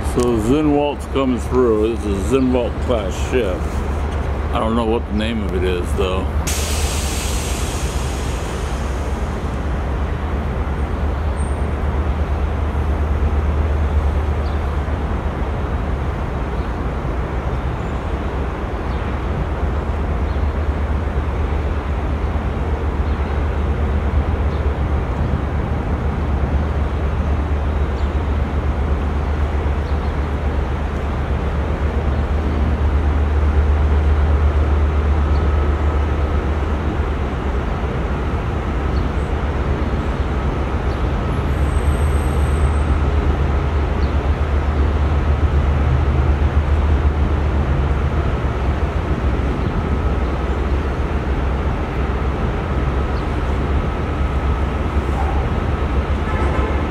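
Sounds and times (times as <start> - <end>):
ship engines rumbling: 0.0 - 56.9.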